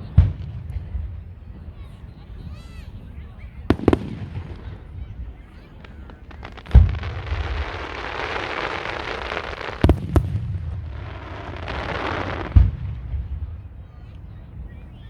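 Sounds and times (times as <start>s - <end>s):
fireworks booming: 0.0s - 15.0s
fireworks crackling hiss: 2.5s - 14.6s.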